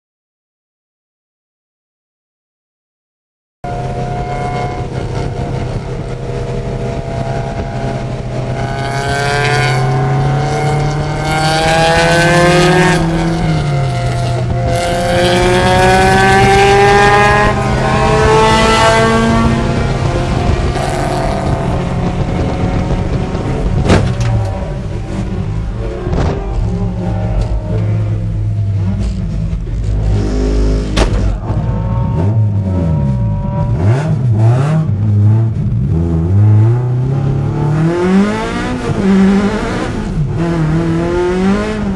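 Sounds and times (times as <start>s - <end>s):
race car engine accelerating: 3.7s - 41.9s.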